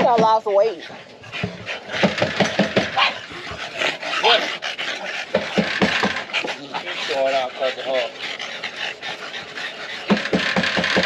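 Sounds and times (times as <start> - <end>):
dogs panting hard: 0.0 - 11.0.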